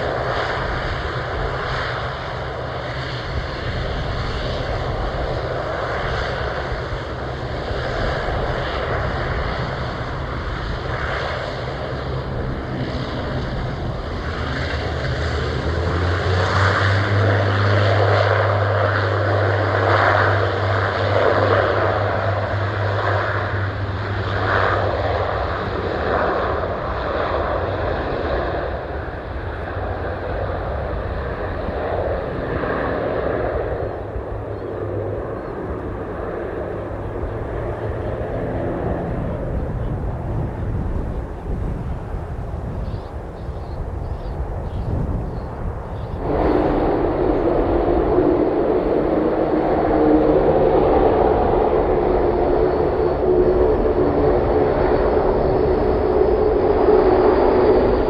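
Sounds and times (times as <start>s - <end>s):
propeller aircraft engines running: 0.0s - 58.0s.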